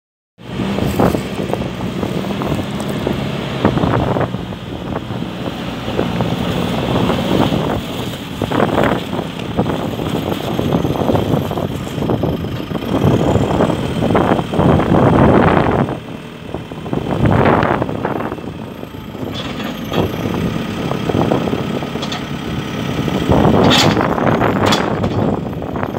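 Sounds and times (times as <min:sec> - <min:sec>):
diesel engine running: 0:00.4 - 0:25.9.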